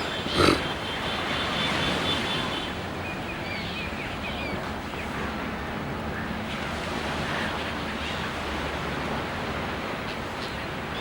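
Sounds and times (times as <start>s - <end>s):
steady rushing outdoor noise: 0.0s - 11.0s.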